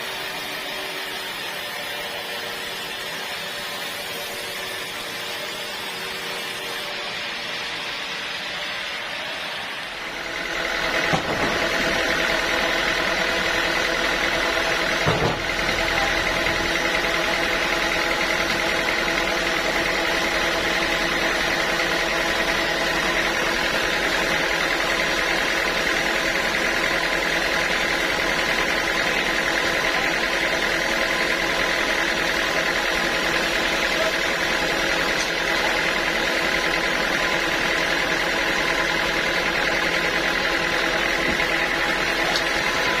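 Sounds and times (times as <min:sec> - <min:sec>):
sawmill saw whining: 0:00.0 - 0:43.0.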